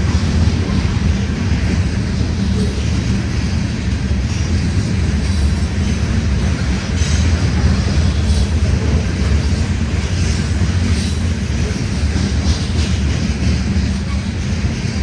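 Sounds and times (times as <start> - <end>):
freight train rumbling past: 0.0 - 15.0
wheel clacks on rails: 0.0 - 15.0.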